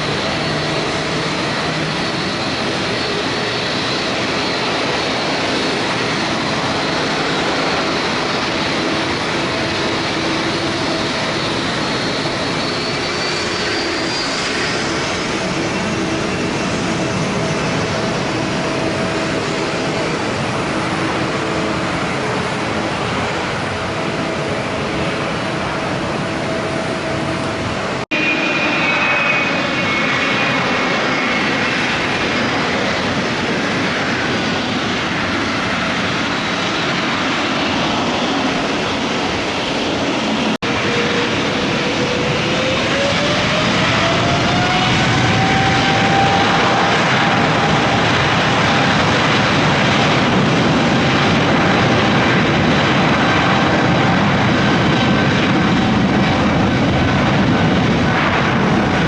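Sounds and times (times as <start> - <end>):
jet engines roaring with whine: 0.0 - 59.0.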